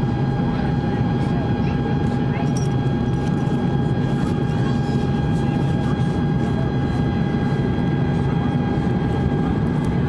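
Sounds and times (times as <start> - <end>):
airflow and engine rush: 0.0 - 10.0.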